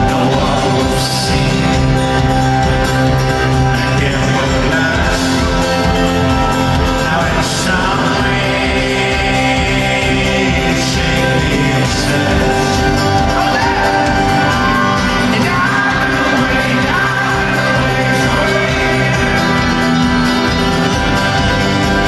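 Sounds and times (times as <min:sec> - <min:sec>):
crowd singing and shouting: 0:00.0 - 0:22.0
live folk-rock band playing: 0:00.0 - 0:22.0.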